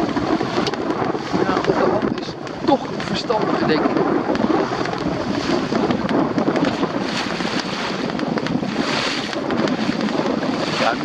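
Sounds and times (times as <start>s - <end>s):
choppy water splashing on hull: 0.0s - 11.0s
wind buffeting microphone: 0.0s - 11.0s.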